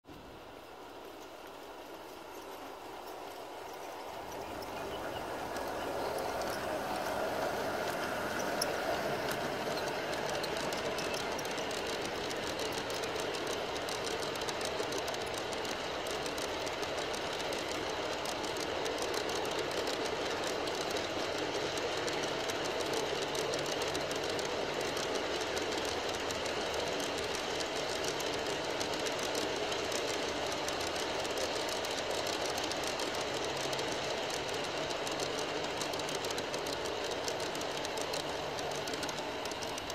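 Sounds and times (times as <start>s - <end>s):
model train wheels clicking: 0.0s - 39.9s.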